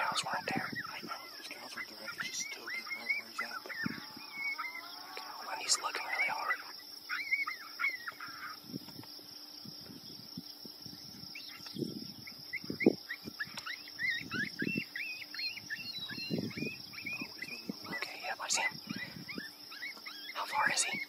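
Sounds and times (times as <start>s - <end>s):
high insect buzz: 0.0s - 21.0s
small bird chirping: 0.0s - 21.0s.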